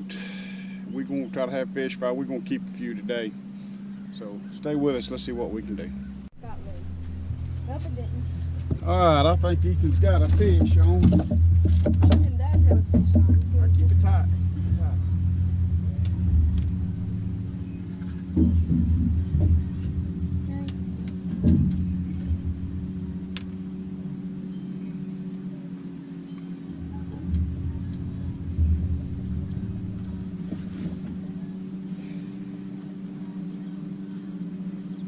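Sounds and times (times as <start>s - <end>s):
small boat motor humming: 0.0s - 35.0s
low thumps: 4.7s - 34.8s.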